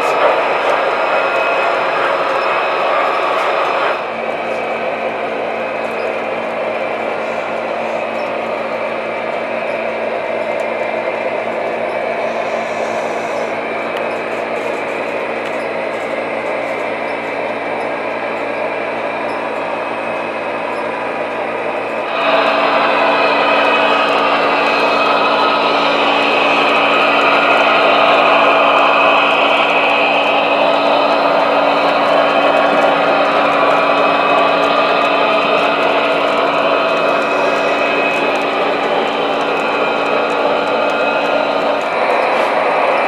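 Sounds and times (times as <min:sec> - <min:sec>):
model locomotive running close by: 0:00.0 - 0:43.0
model train motors whirring: 0:00.0 - 0:43.0.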